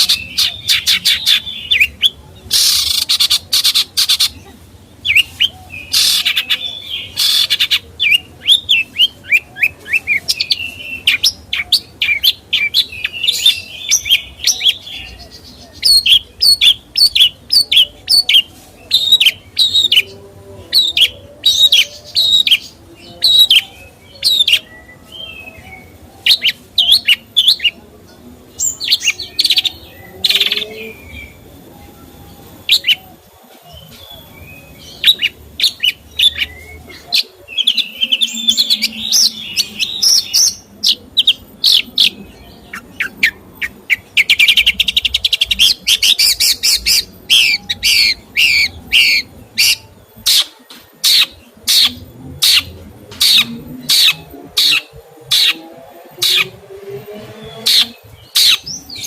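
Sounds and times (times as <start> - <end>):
caged songbird chirping: 0.0 - 59.0.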